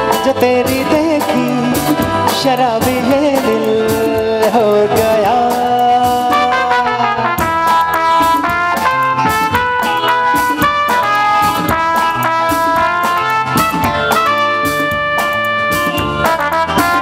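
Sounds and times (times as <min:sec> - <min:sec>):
drums beating: 0:00.0 - 0:17.0
live band instrumental: 0:00.0 - 0:17.0.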